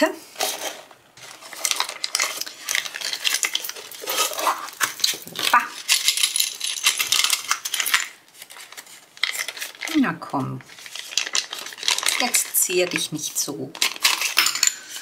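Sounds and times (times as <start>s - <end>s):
plastic bag crinkling: 0.4s - 15.0s
plastic pieces clicking: 1.4s - 10.0s, 10.7s - 15.0s.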